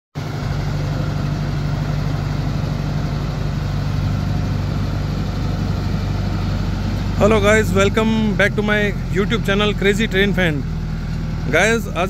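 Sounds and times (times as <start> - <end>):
diesel engine running: 0.2 - 12.0.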